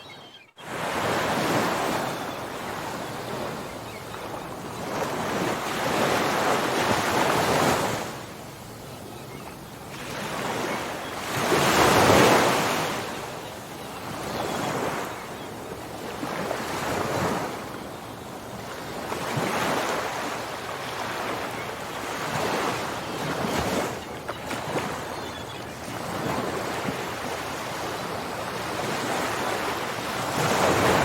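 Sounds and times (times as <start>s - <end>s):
ocean waves breaking: 0.6s - 8.3s, 9.3s - 31.0s.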